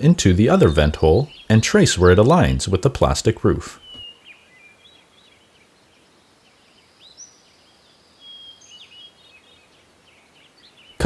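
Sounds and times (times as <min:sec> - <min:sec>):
faint bird chirps and calls: 0:00.0 - 0:11.0.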